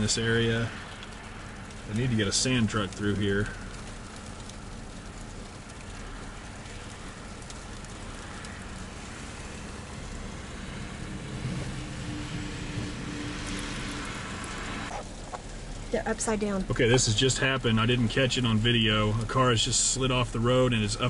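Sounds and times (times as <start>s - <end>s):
engine and tyres rumble: 0.0s - 21.0s.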